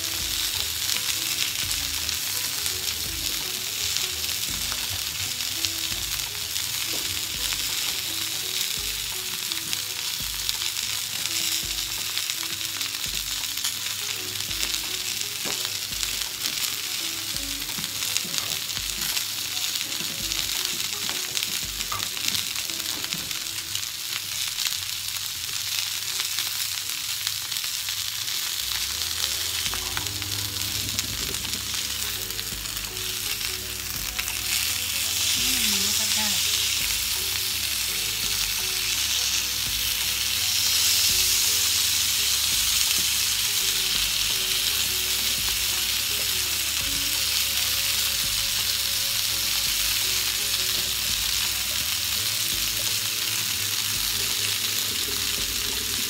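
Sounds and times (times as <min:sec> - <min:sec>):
food sizzling in oil: 0:00.0 - 0:56.0.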